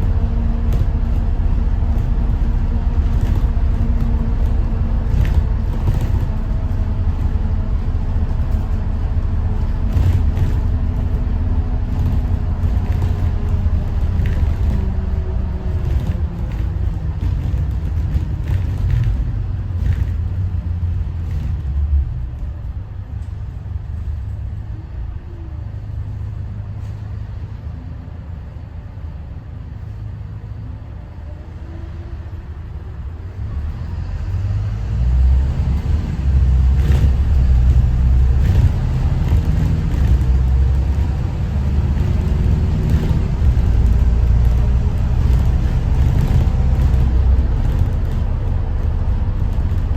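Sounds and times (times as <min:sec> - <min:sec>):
bus diesel engine: 0:00.0 - 0:49.9
road rumble: 0:00.0 - 0:49.9.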